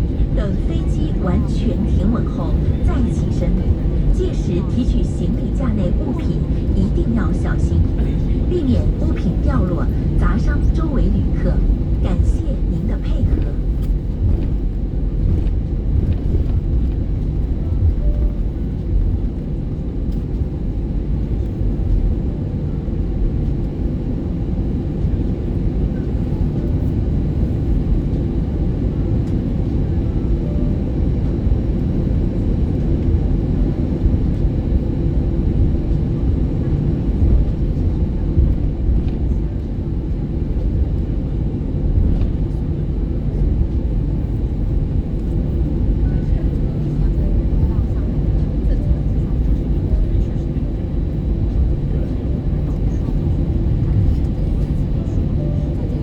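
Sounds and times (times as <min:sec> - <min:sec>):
aircraft cabin low rumble: 0:00.0 - 0:56.0.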